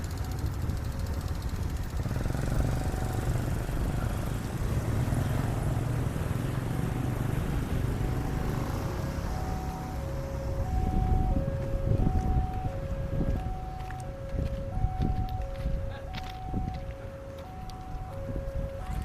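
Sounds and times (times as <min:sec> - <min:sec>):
engines rumbling: 0:00.0 - 0:19.0.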